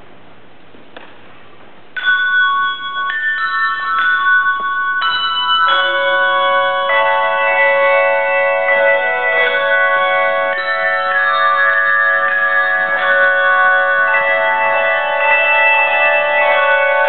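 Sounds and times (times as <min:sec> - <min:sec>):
handbell choir playing: 0:02.0 - 0:17.0.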